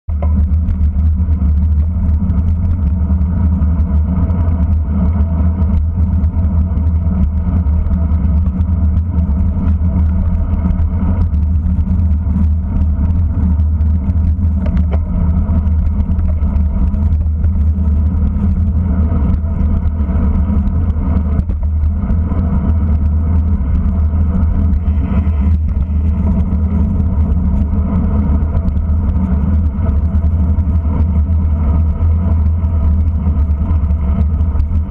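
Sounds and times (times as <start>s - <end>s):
road vibration rumble: 0.0s - 34.9s
wind buffeting: 0.2s - 34.9s.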